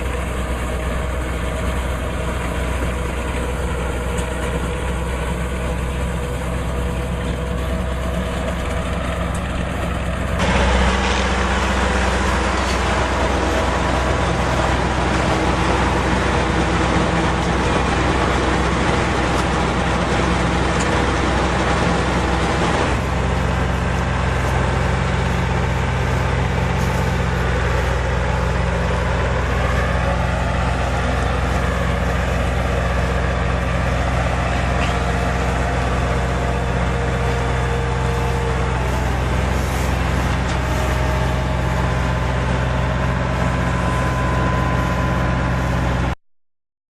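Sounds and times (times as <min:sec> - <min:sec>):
dense mechanical baler noise: 0:00.0 - 0:46.2
tractor engine running: 0:00.0 - 0:46.2.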